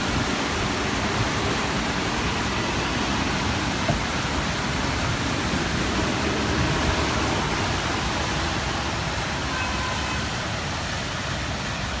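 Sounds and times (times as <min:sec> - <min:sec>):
bus engine: 0:00.0 - 0:09.7
car splashing through water: 0:00.0 - 0:12.0
rush of floodwater: 0:00.0 - 0:12.0.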